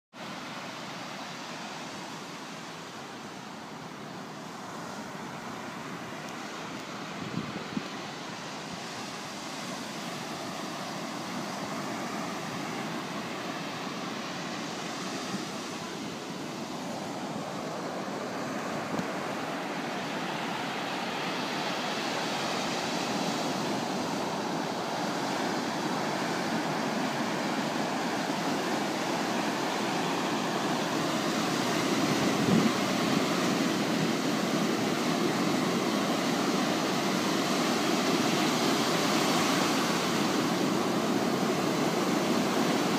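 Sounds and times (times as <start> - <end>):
ocean surf breaking: 0.2 - 42.9.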